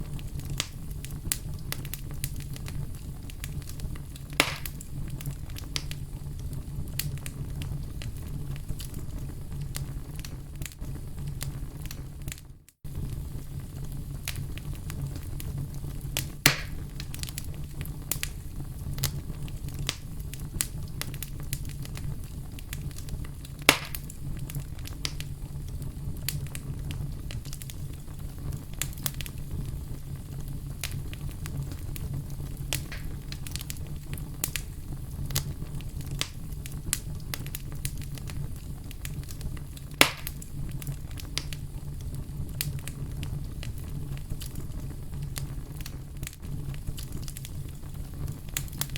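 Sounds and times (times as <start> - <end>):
fire snapping: 0.0 - 48.9
loud fire pops: 0.0 - 48.9
low rumble of flames: 0.0 - 48.9.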